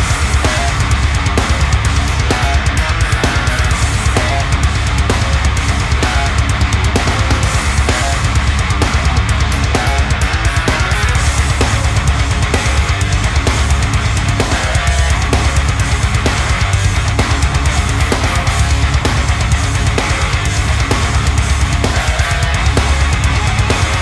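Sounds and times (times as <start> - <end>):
heavy metal music: 0.0 - 24.0.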